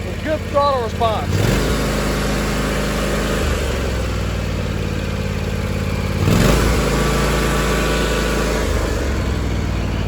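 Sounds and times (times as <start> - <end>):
lawn tractor engine running: 0.0 - 10.0.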